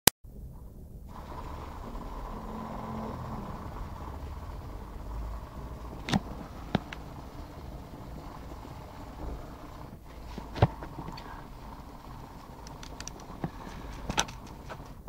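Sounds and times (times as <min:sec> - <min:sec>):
steady low rumble: 0:00.2 - 0:15.0.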